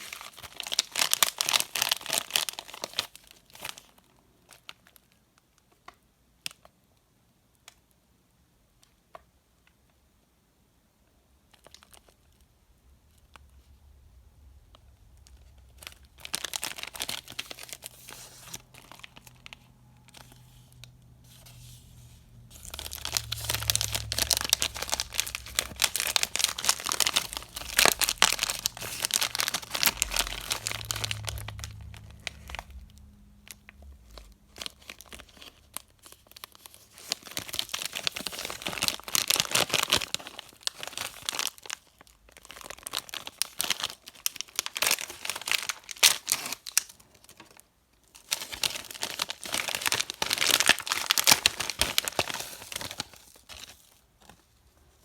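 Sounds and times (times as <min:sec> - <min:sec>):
candy wrappers crinkling: 0:00.0 - 0:06.7, 0:11.5 - 0:12.5, 0:14.5 - 0:55.0.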